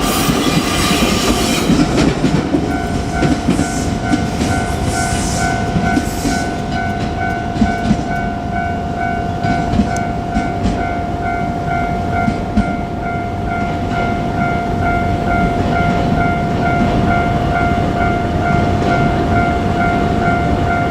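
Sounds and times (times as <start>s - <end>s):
electric train rumbling: 0.0s - 20.9s
train wheels clacking on rails: 0.0s - 20.9s
level crossing warning bell ringing: 1.3s - 20.9s.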